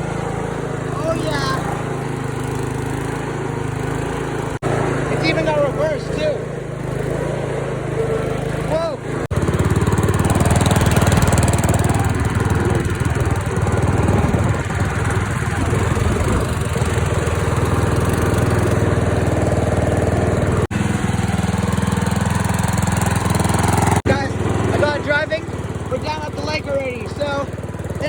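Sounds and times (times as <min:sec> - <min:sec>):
riding lawn mower engine: 0:00.0 - 0:28.0.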